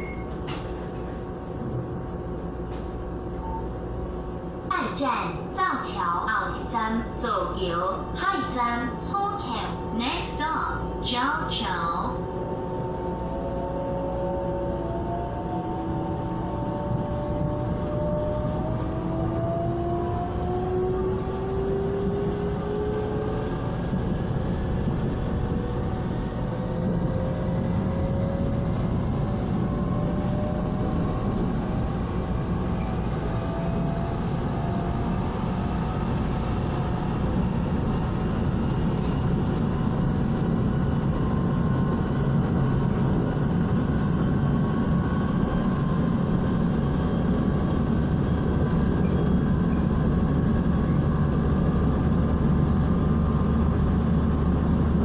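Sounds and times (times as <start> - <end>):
train traction motor whine: 0.0 - 55.0
wheels rumbling on rail: 0.0 - 55.0.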